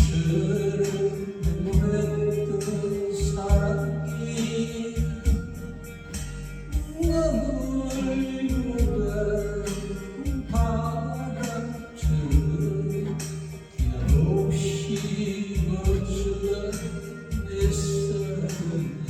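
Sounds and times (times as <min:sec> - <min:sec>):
drum beat: 0:00.0 - 0:05.6, 0:06.2 - 0:18.0
bass: 0:00.0 - 0:19.0
person singing: 0:00.0 - 0:19.0.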